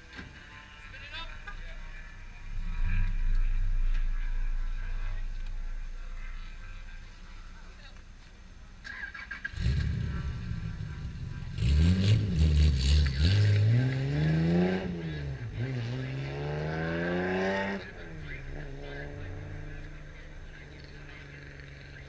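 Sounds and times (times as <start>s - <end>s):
race car engine accelerating: 1.4s - 22.0s.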